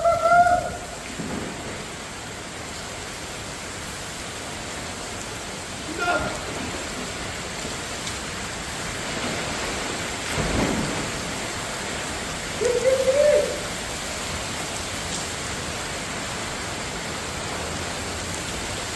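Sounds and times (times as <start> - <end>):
rain falling: 0.0 - 18.9.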